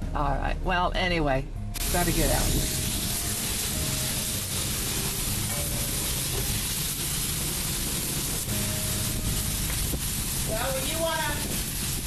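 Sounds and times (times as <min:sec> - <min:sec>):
high-pressure water spraying: 0:01.8 - 0:12.0.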